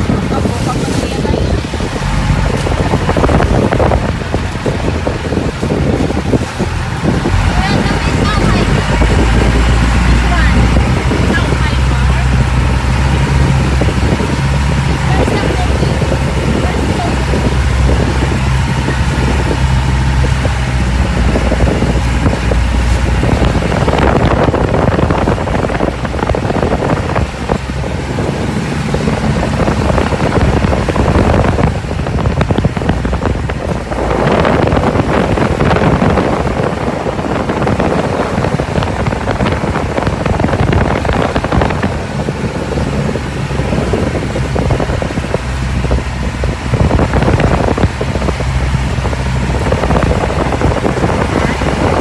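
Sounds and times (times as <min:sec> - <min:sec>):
boat engine running: 0:00.0 - 0:52.0
wind on microphone: 0:00.0 - 0:52.0.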